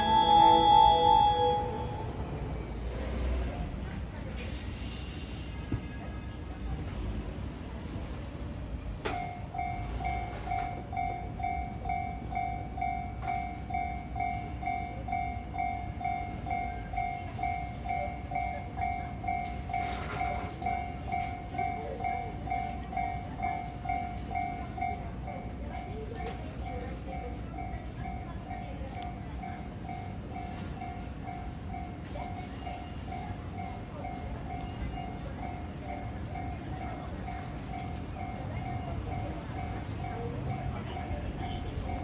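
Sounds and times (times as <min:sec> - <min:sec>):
railroad crossing bell ringing: 0:00.0 - 0:02.9, 0:09.1 - 0:42.0.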